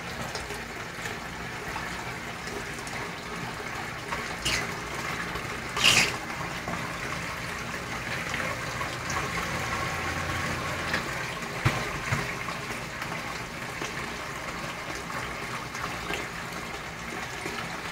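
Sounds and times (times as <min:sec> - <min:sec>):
pump humming: 0:00.0 - 0:17.9
water rushing and splashing: 0:00.0 - 0:17.9.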